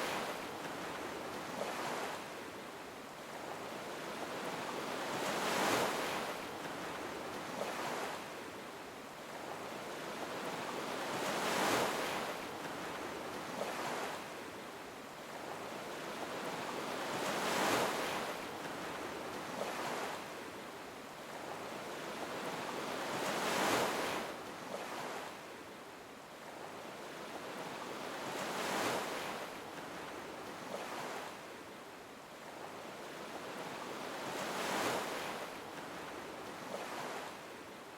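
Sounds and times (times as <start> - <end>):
waves breaking and washing in: 0.0 - 37.9.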